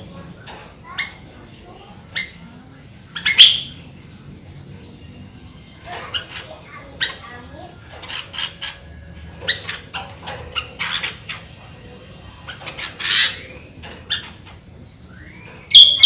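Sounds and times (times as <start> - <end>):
bird chirping: 0.4 - 16.0.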